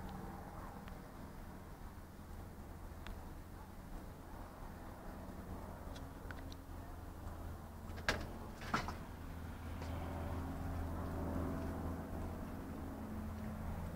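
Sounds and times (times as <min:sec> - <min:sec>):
propeller plane engine drone: 0:00.0 - 0:13.9.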